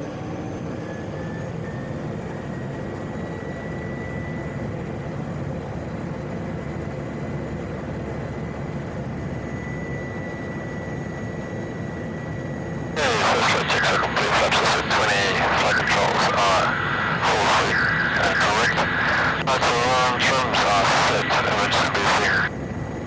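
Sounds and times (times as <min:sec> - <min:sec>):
turboprop engine with high whine: 0:00.0 - 0:23.0.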